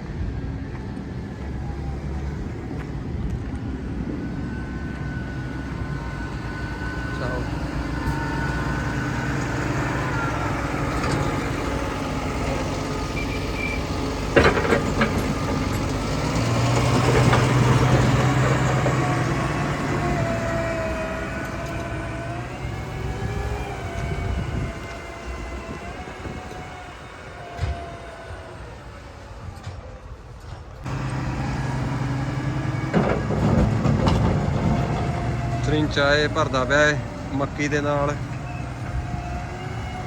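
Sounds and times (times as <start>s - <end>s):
heavy machinery engine running: 0.0s - 40.0s.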